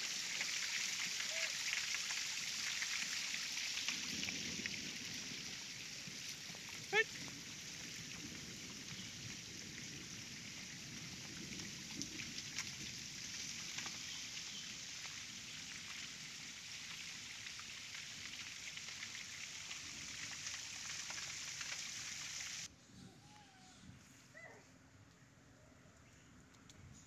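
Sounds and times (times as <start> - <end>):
rain on ground and foliage: 0.0 - 22.7.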